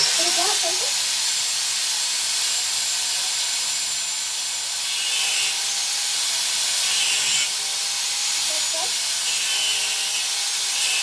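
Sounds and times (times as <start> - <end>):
power tool cutting with hiss: 0.0 - 11.0.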